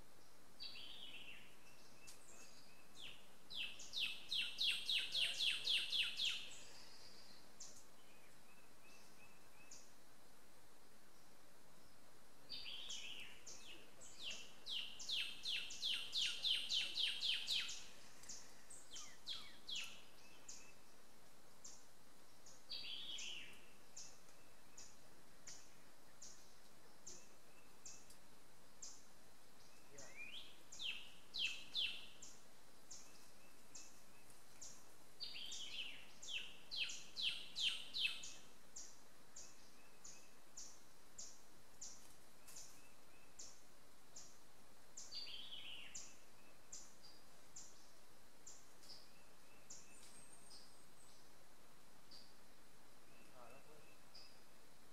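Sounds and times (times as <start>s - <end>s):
songbird songs of rapid high notes: 0.0s - 54.9s.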